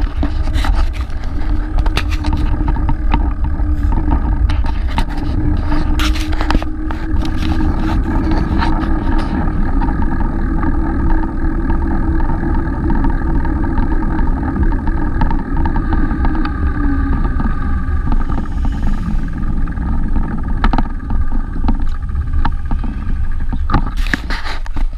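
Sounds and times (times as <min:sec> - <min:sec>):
low hum: 0:00.0 - 0:24.9
rumble of riding on pavement: 0:00.0 - 0:24.9.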